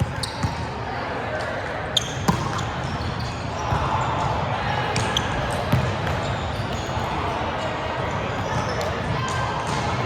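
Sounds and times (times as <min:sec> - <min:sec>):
din of players' voices: 0:00.0 - 0:10.0.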